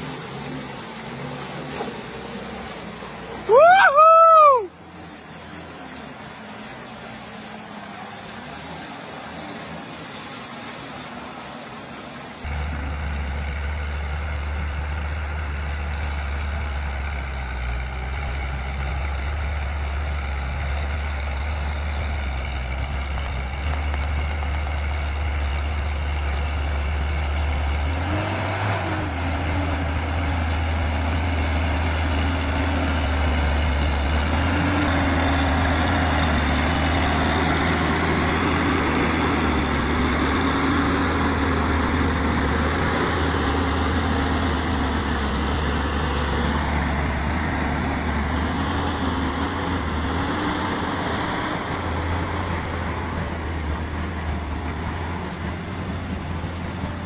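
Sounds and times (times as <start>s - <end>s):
diesel engine droning under load: 0.0s - 57.0s.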